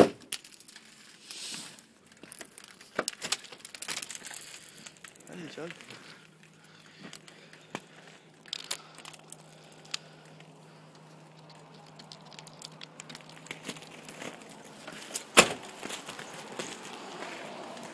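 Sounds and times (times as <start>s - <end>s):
footsteps on icy ground: 0.7s - 17.9s.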